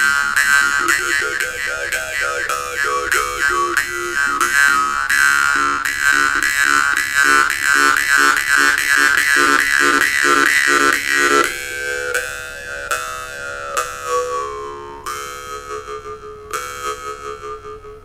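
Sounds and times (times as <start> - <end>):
jaw harp plucking: 0.0 - 18.0.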